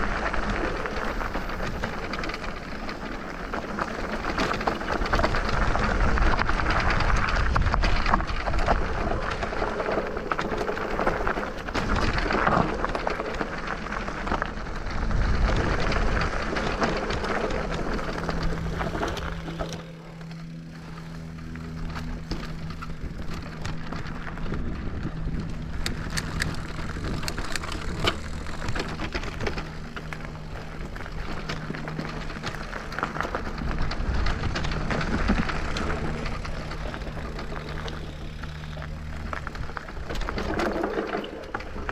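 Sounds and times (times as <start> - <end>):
bike chassis rattling: 0.0 - 41.9
electric motor hum: 0.0 - 41.9
tyres crunching over stones: 0.0 - 41.9
wind: 0.0 - 41.9.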